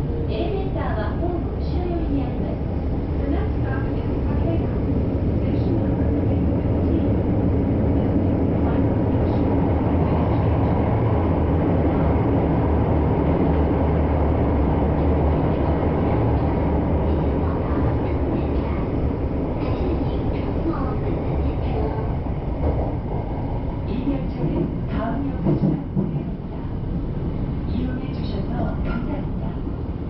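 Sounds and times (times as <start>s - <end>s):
train wheels and motors rumbling: 0.0s - 30.0s.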